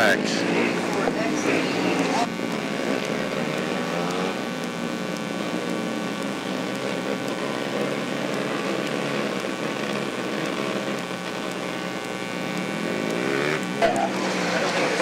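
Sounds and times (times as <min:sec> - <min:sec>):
racing engines droning: 0:00.0 - 0:15.0.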